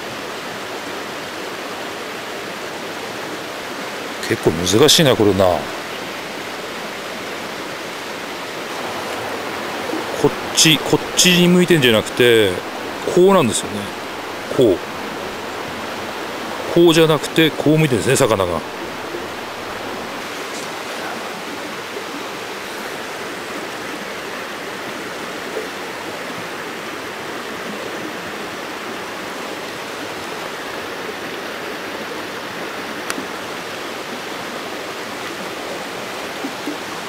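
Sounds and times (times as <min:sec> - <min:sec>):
stream water rushing: 0:00.0 - 0:37.0.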